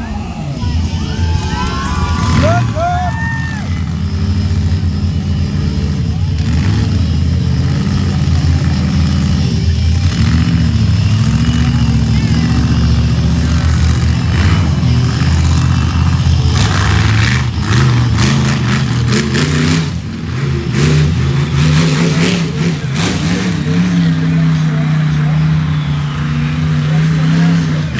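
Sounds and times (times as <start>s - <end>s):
vehicle engines revving: 0.0s - 27.9s.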